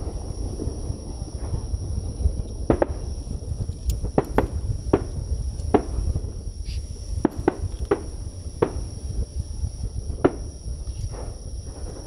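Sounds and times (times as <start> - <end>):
firework shells bursting: 0.0 - 12.0
low rumble: 0.0 - 12.0.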